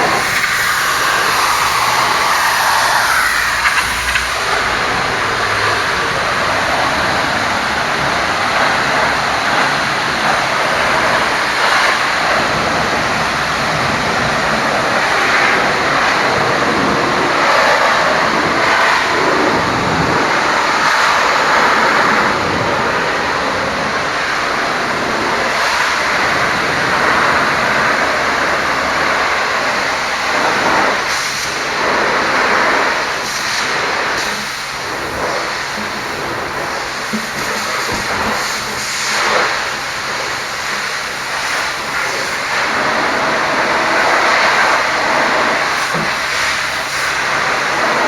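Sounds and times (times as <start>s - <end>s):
high-pressure water jet spraying: 0.0s - 48.0s.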